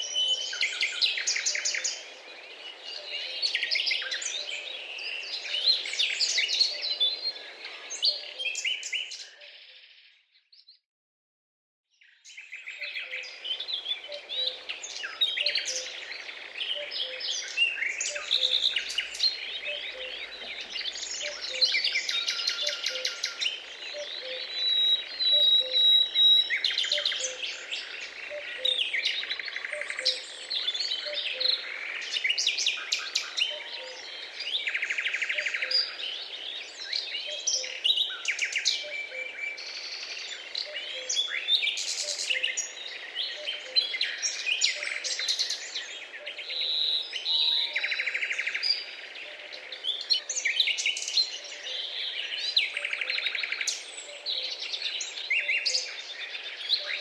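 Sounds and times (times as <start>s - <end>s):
small birds chirping: 0.0s - 10.8s, 11.9s - 57.0s.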